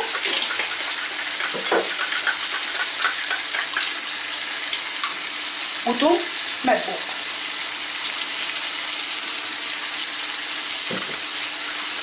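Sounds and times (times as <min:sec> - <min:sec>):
sauce sizzling in a frying pan: 0:00.0 - 0:12.0.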